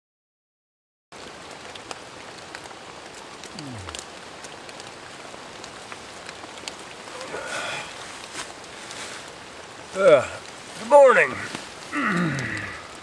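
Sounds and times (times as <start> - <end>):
heavy rain on leaves: 1.1 - 13.0
raindrops ticking close by: 1.1 - 13.0.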